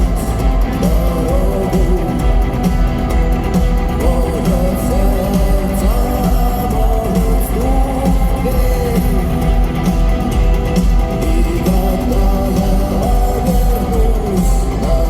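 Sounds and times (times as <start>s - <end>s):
heavy bass line: 0.0s - 15.0s
person singing melodic vocals: 0.0s - 15.0s
rock band playing live: 0.0s - 15.0s.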